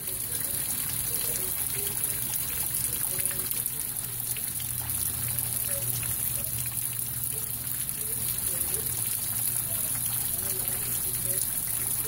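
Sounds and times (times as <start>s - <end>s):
steady rain: 0.0s - 12.0s
water trickling and pouring: 0.0s - 12.0s.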